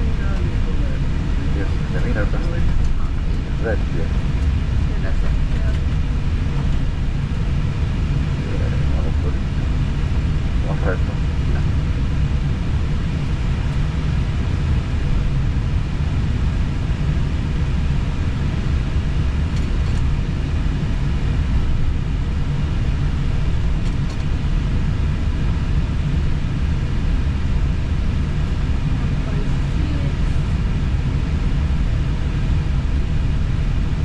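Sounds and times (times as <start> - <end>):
aircraft cockpit rumble: 0.0 - 34.0.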